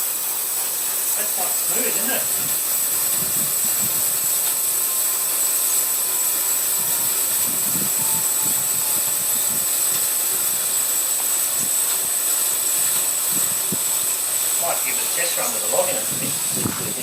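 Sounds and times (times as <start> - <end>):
bandsaw blade whining: 0.0 - 17.0.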